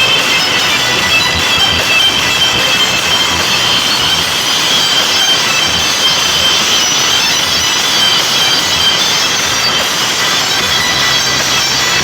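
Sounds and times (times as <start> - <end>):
loud distorted sound system music: 0.0 - 12.0.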